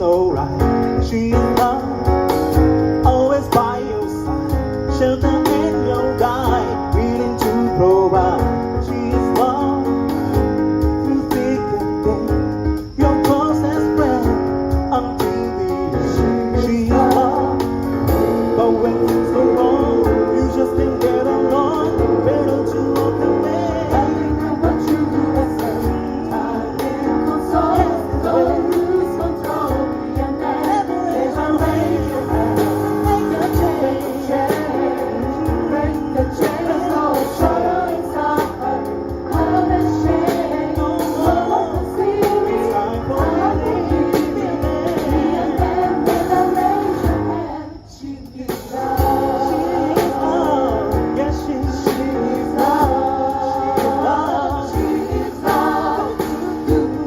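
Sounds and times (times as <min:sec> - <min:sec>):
gospel choir singing: 0:00.0 - 0:57.0
keyboard and percussion: 0:00.0 - 0:57.0.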